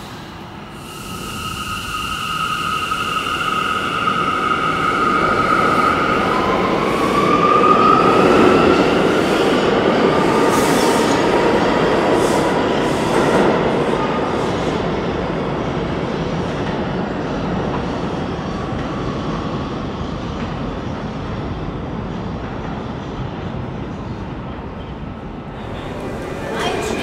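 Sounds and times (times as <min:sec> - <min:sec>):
subway train motors whining: 0:00.0 - 0:27.0.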